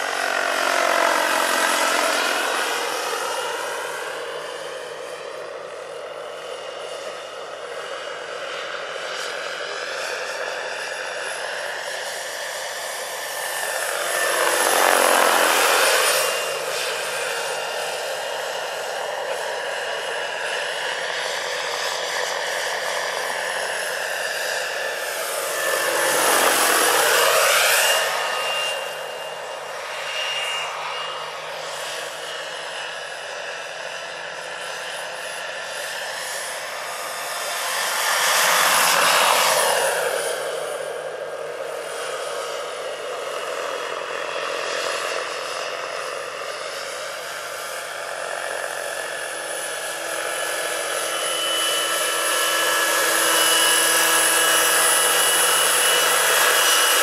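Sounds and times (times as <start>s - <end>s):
model helicopter turbine whine: 0.0s - 57.0s.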